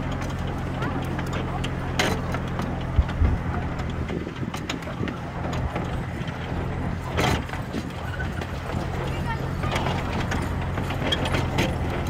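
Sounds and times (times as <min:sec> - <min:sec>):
low locomotive hum: 0:00.0 - 0:12.0
miniature train wheels rattling: 0:00.0 - 0:12.0.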